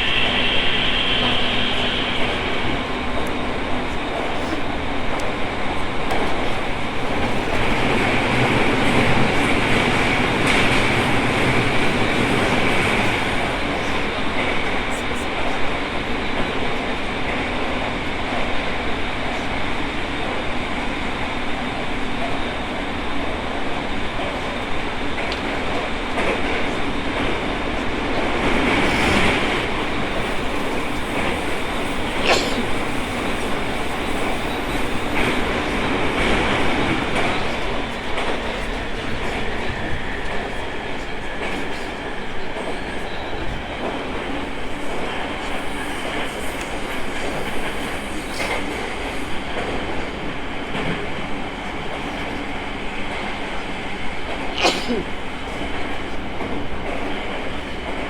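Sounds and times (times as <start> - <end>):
rail joint clicks: 0.0 - 58.0
train wheels rumbling on rail: 0.0 - 58.0.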